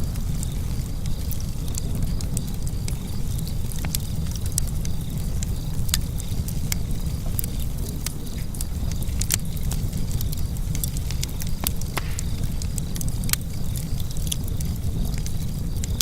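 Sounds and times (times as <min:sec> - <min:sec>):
fire crackling and popping: 0:00.0 - 0:16.0
flames rumbling: 0:00.0 - 0:16.0.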